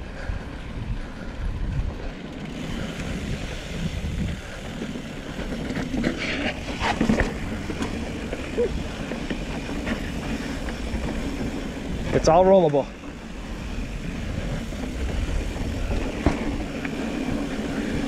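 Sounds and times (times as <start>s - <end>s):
bike tyres on dirt and rock: 0.0s - 18.0s
wind rushing over microphone: 0.0s - 18.0s
bike rattling and clattering: 0.1s - 18.0s.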